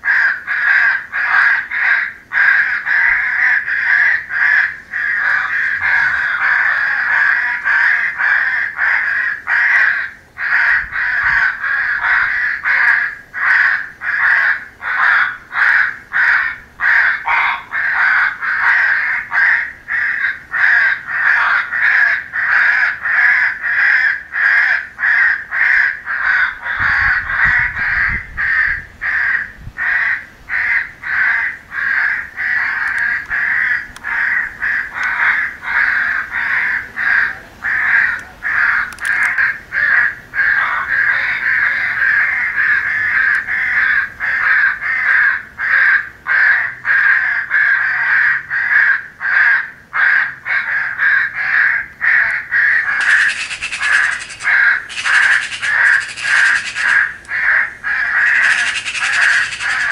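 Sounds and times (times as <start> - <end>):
crows cawing: 0.0 - 59.9.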